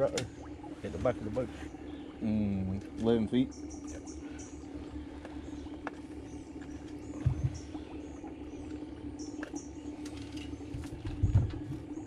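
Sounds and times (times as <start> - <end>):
low hum and rumble: 0.0 - 12.0
small birds chirping: 0.0 - 12.0.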